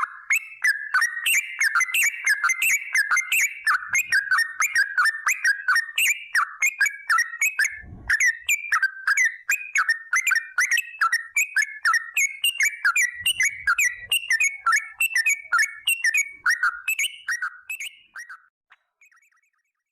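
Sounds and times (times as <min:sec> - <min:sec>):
bird singing whistled notes: 0:00.0 - 0:19.9.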